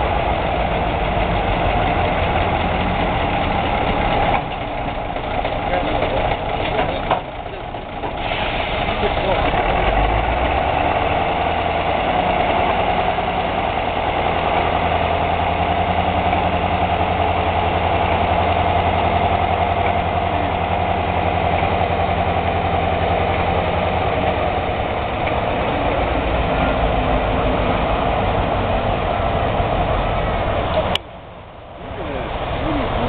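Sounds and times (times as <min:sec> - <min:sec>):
diesel locomotive engine running: 0:00.0 - 0:33.0.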